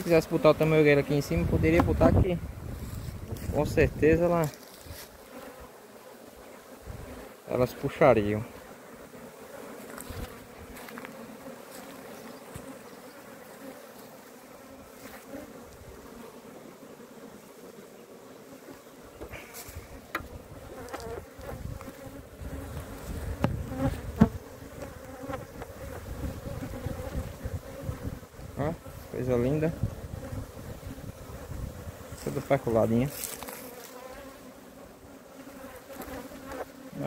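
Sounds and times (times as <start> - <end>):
bees humming: 0.0 - 37.0.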